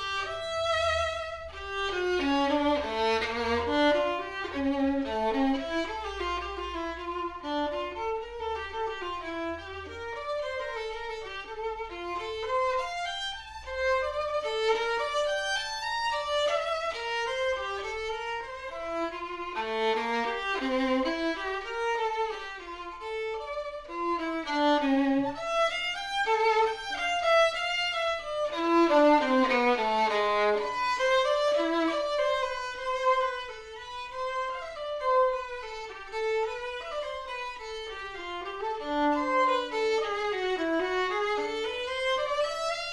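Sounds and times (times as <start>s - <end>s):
violin melody: 0.0s - 42.9s.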